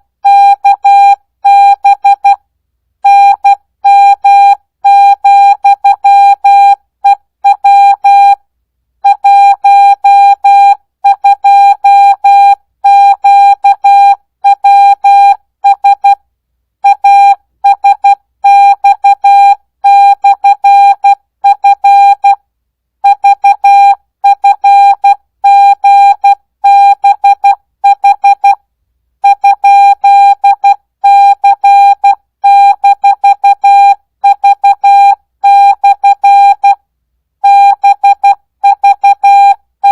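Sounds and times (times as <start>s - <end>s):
morse code beeps: 3.1s - 8.4s, 9.0s - 16.2s, 16.9s - 22.4s, 23.0s - 28.6s, 29.2s - 36.8s, 37.4s - 39.9s.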